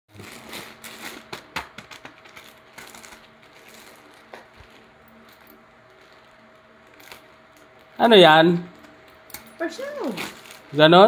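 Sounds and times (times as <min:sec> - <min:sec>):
plastic mailer bag crinkling: 0:00.1 - 0:08.1, 0:09.7 - 0:11.0.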